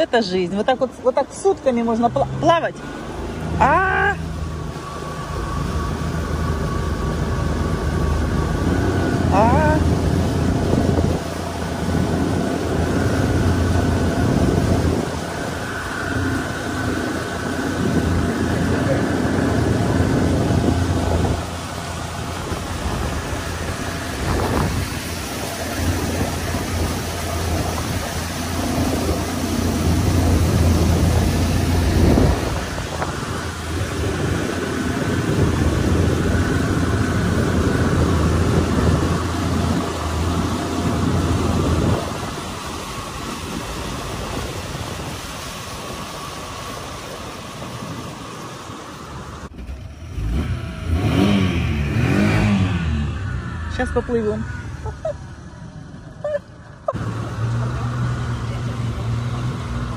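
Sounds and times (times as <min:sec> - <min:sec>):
outboard motor running: 0:00.0 - 0:59.9
water and wind noise: 0:00.0 - 0:59.9.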